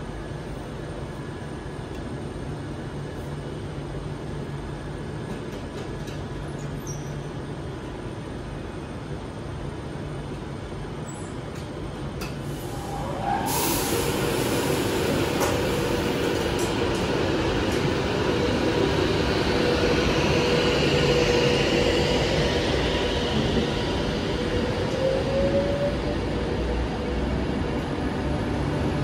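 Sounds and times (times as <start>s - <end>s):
train wheels rumbling on track: 3.4s - 29.0s.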